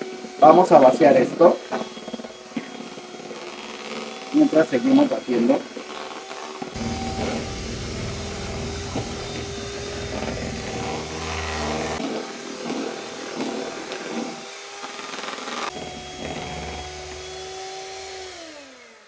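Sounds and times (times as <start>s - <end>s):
electric mixer beating batter: 0.0s - 19.0s.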